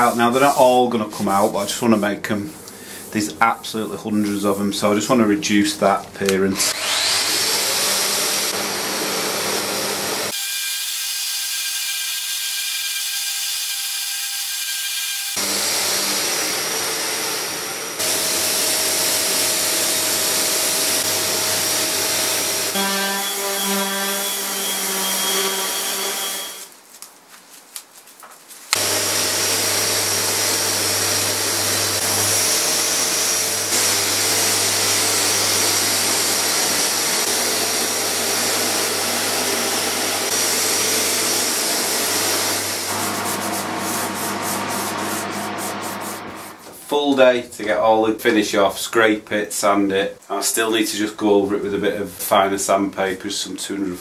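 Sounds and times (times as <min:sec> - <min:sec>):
orbital sanders sanding wood: 0:00.0 - 0:26.8, 0:28.7 - 0:46.9.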